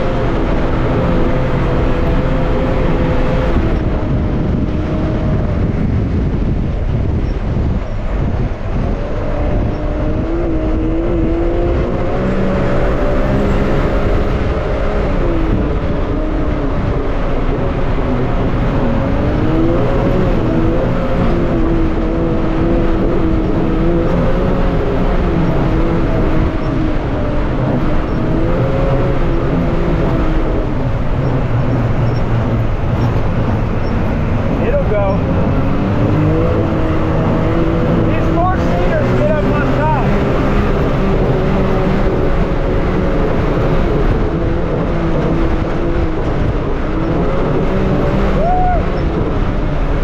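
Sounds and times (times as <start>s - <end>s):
engine running under load: 0.0s - 50.0s
low rumble and rush of noise: 0.0s - 50.0s.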